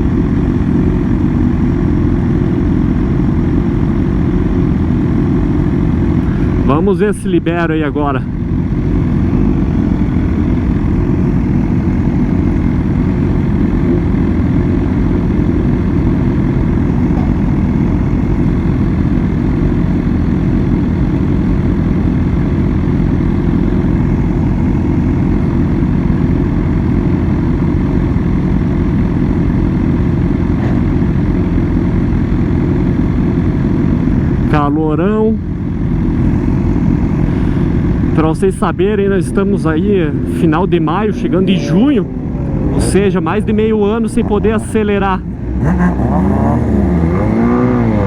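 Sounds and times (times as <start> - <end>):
motorcycle engine and wind rumble: 0.0 - 48.0.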